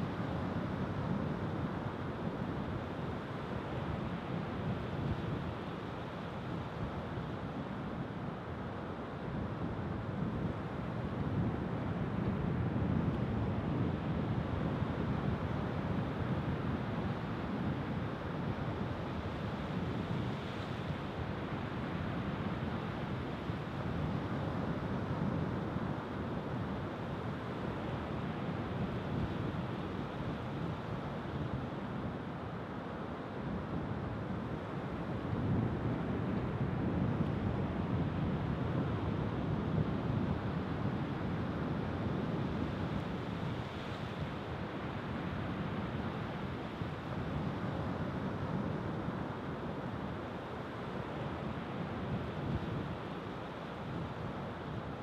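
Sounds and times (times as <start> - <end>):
wind: 0.0 - 55.0.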